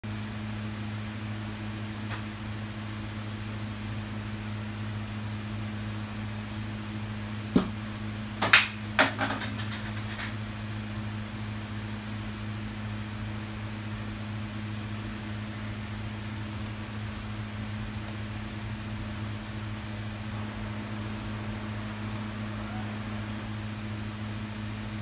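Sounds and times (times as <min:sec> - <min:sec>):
appliance electrical hum: 0:00.0 - 0:25.0.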